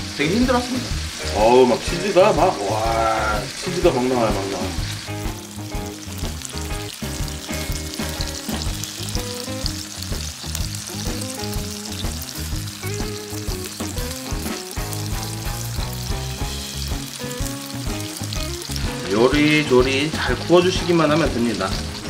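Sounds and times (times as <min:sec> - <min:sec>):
background music: 0:00.0 - 0:22.0
food sizzling in a frying pan: 0:00.0 - 0:22.0.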